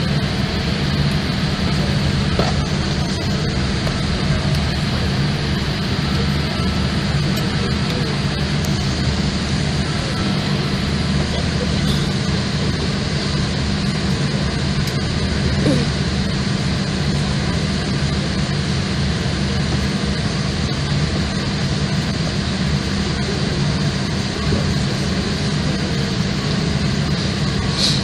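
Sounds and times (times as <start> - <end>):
aircraft cabin hum: 0.0 - 28.0.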